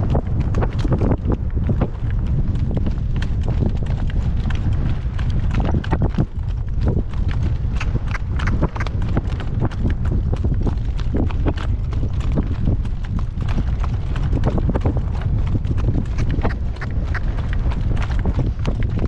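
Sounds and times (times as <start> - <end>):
horse hooves clip-clopping: 0.0 - 19.0
wind buffeting microphone: 0.0 - 19.0.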